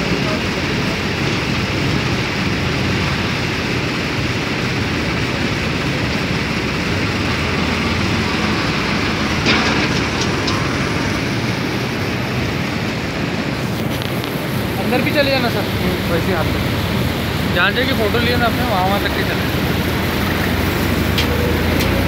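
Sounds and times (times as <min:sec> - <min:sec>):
machinery mechanical drone: 0:00.0 - 0:22.0.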